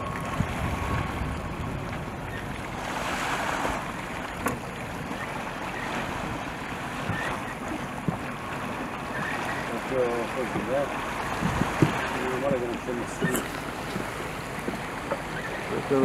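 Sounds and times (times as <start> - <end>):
water washing and splashing: 0.0 - 16.0
wind buffeting microphone: 0.0 - 16.0.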